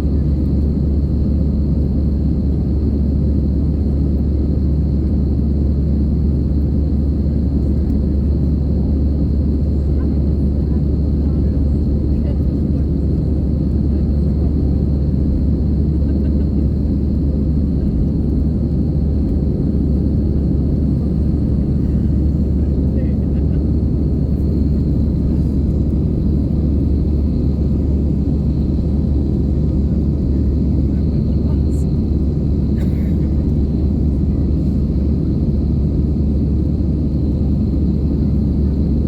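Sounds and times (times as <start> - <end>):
jet engines roaring in cabin: 0.0 - 39.0.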